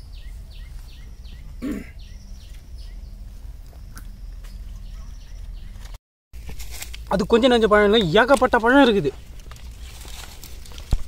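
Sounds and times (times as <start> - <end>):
branches and leaves rustling: 0.0 - 11.0
steady low rumble: 0.0 - 11.0.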